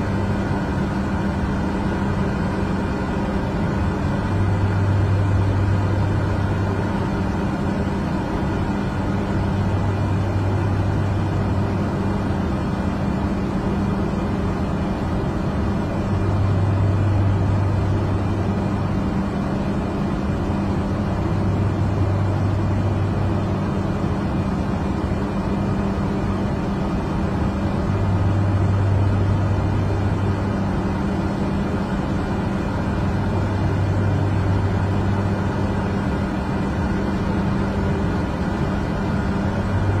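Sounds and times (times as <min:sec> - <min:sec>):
aircraft cabin engine drone: 0:00.0 - 0:40.0.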